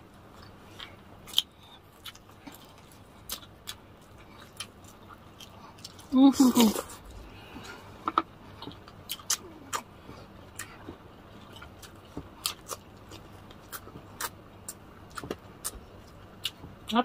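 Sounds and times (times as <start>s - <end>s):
crunchy chewing: 0.2s - 16.9s.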